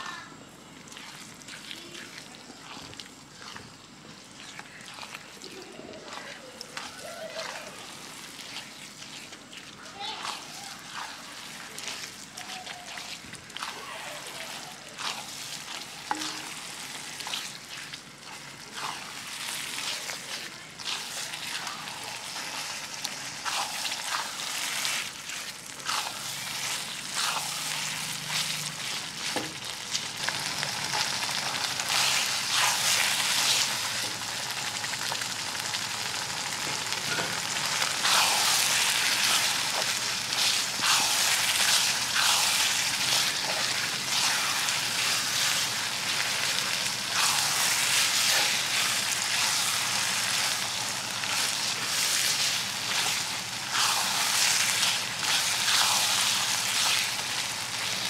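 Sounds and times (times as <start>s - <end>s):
paste sizzling in a wok: 0.0s - 58.0s
spatula stirring in a wok: 0.0s - 58.0s.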